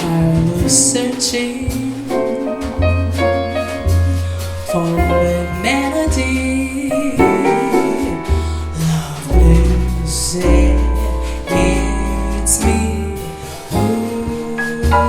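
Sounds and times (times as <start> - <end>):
double bass notes: 0.0 - 15.0
woman singing: 0.0 - 15.0.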